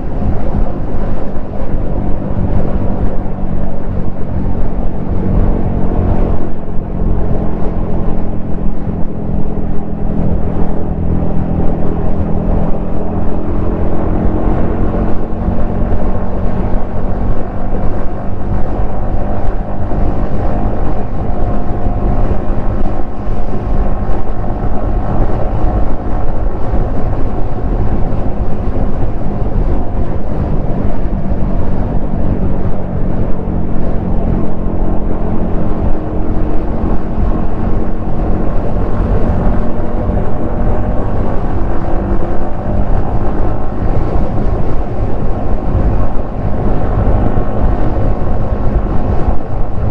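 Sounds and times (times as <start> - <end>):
motorcycle engine cruising: 0.0 - 49.9
wind rumble on microphone: 0.0 - 49.9.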